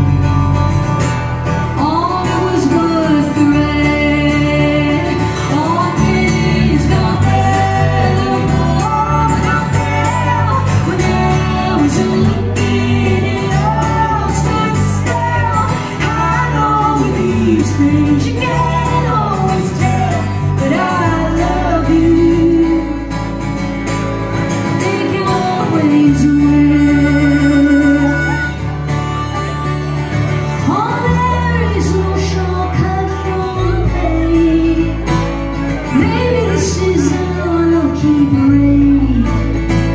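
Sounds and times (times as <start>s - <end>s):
bass line: 0.0s - 39.9s
strummed acoustic guitar: 0.0s - 39.9s
woman singing: 1.6s - 23.3s, 24.5s - 28.6s, 30.5s - 39.6s.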